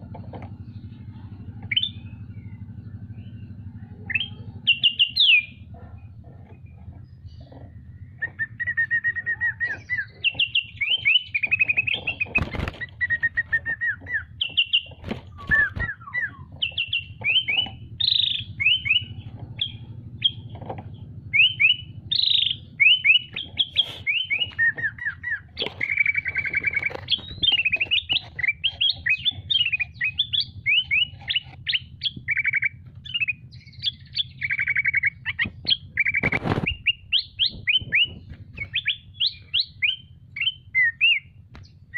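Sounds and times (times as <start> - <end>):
songbird singing: 0.0 - 41.9
steady low hum: 0.0 - 41.9.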